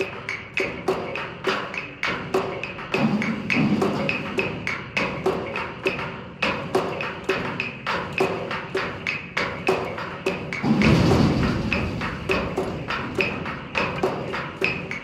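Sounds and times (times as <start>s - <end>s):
steel dumpster struck rhythmically: 0.0s - 15.0s.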